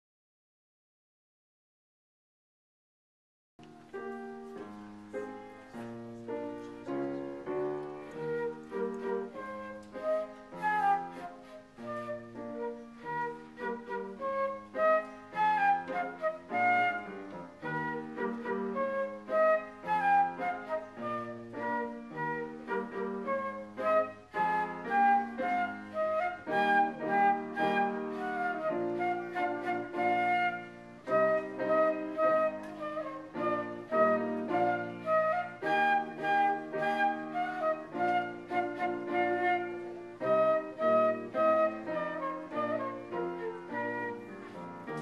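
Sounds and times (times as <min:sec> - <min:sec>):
flute melody: 0:03.6 - 0:45.0
piano chords: 0:03.6 - 0:45.0.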